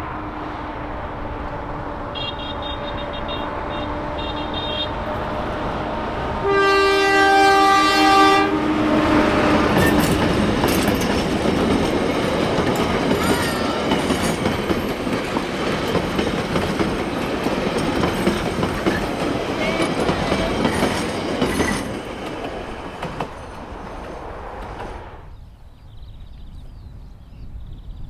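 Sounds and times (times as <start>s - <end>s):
train carriages rolling past: 0.0s - 25.4s.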